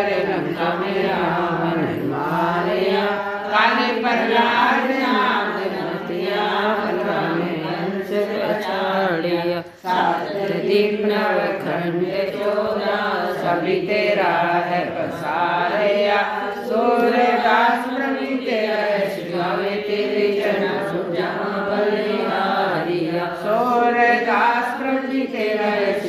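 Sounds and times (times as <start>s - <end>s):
women singing together: 0.0s - 26.0s.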